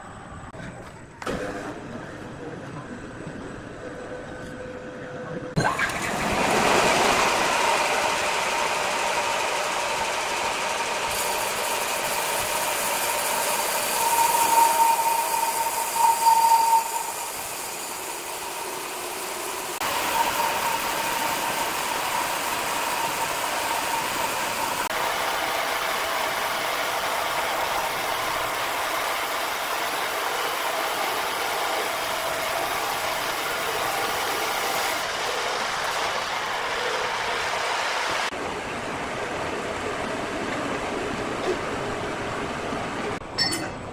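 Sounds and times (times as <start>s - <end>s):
band sawmill whirring and whining: 0.0s - 43.3s.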